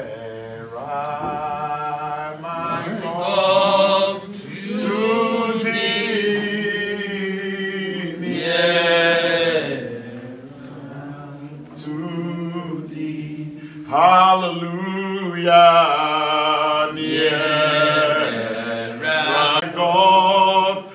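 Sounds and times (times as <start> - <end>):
man singing a hymn: 0.0 - 20.9.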